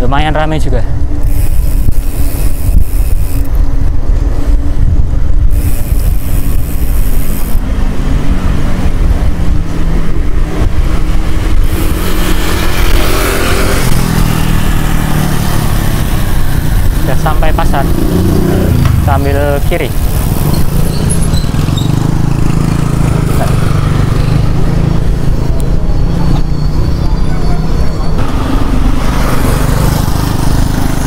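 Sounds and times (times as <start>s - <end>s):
wind rumble on microphone: 0.1s - 31.0s
motor scooter engine droning: 5.5s - 31.0s.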